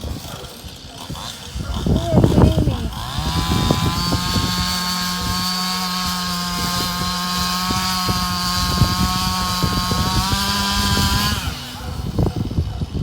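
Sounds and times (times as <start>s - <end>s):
chainsaw cutting at full throttle: 0.0s - 13.0s.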